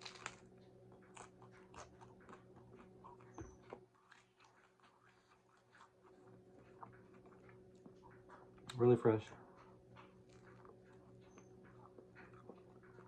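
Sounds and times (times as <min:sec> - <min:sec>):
chewing with small crunches: 0:00.0 - 0:13.0
steady low hum: 0:00.0 - 0:13.0.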